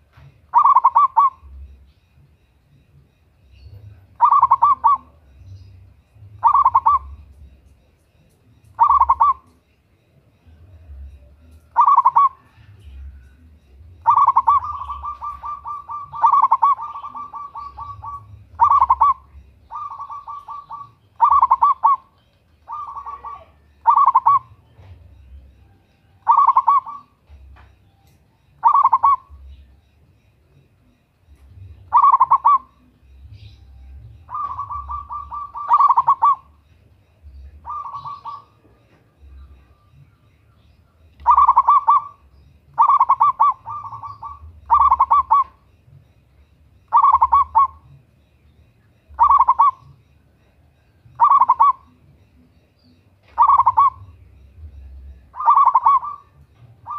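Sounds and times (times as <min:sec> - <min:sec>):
dove cooing: 0:00.0 - 0:46.2, 0:46.8 - 0:48.2, 0:48.8 - 0:56.9.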